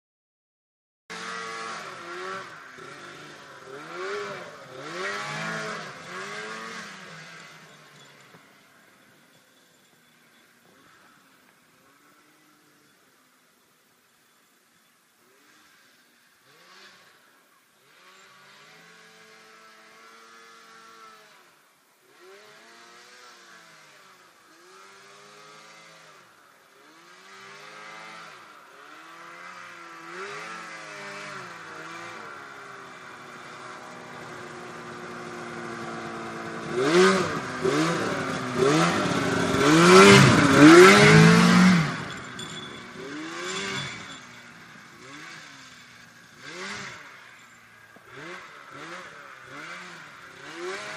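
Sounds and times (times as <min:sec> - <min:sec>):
snowmobile engine revving: 0:01.1 - 0:12.9, 0:15.2 - 0:50.9.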